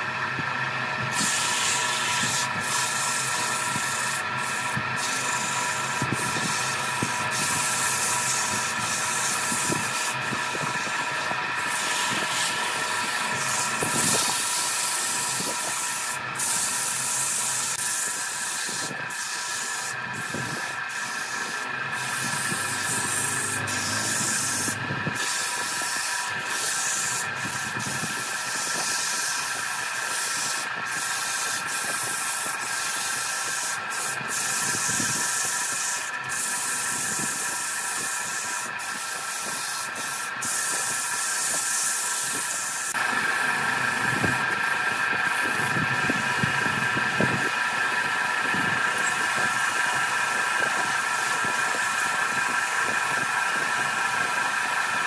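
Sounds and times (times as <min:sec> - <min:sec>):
lathe electric motor whine: 0:00.0 - 0:55.0
sandpaper scratching turning wood: 0:01.1 - 0:43.0, 0:43.6 - 0:55.0.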